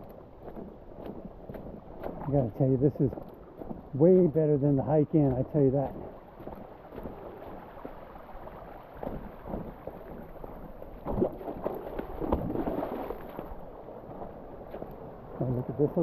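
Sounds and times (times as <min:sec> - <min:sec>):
shallow creek water running: 0:00.0 - 0:16.0
water splashes: 0:00.1 - 0:16.0.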